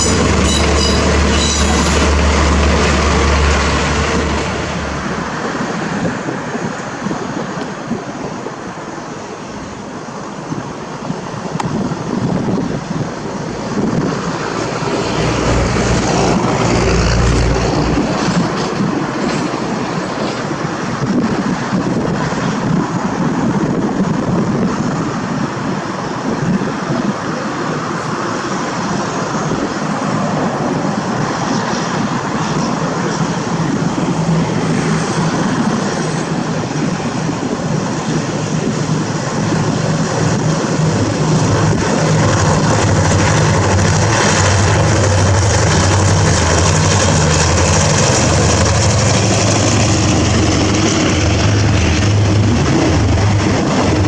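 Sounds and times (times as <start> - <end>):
train engine drone: 0.0 - 54.0
train wheels rumbling on track: 0.0 - 54.0.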